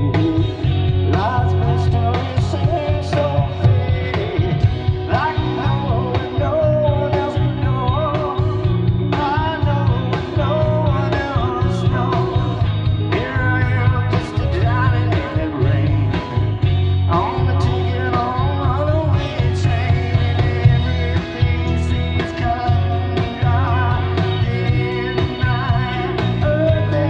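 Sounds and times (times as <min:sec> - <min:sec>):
live rock band playing: 0:00.0 - 0:27.0
pitch-bending guitar lead melody: 0:00.0 - 0:27.0.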